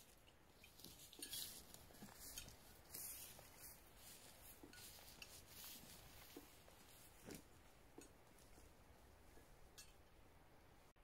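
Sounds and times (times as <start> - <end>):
footsteps through dry grass: 0.0 - 9.6.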